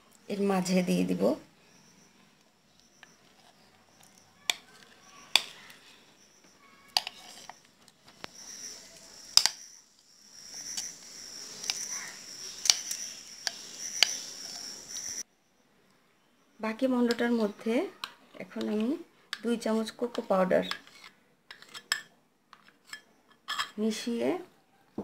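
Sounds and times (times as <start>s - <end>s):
spoon scraping batter: 1.0s - 15.2s, 17.0s - 23.8s.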